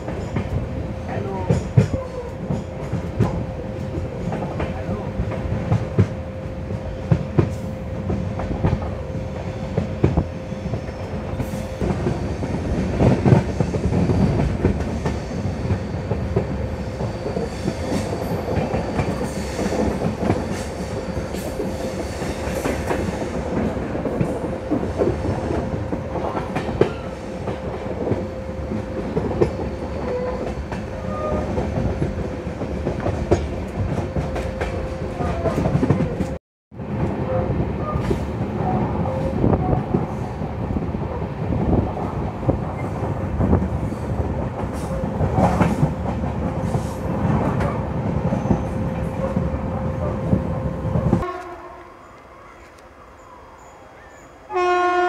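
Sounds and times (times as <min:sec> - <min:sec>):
clickety-clack over rail joints: 0:00.0 - 0:40.4, 0:41.4 - 0:51.5
train wheels rumbling on rails: 0:00.0 - 0:51.5.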